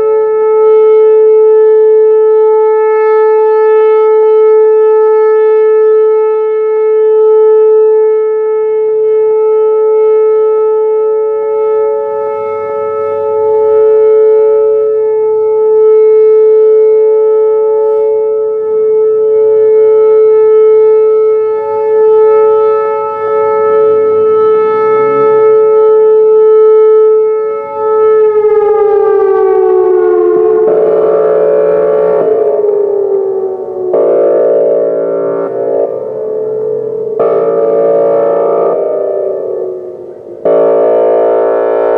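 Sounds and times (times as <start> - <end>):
outdoor warning siren: 0.0 - 41.9.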